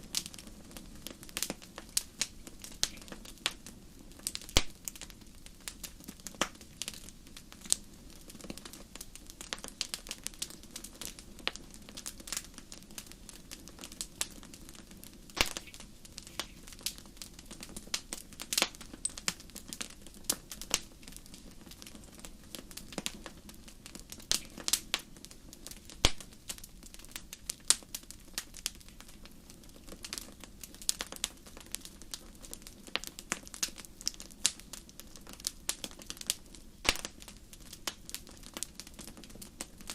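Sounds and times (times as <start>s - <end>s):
campfire crackling: 0.0s - 39.9s
fire hissing: 0.0s - 39.9s.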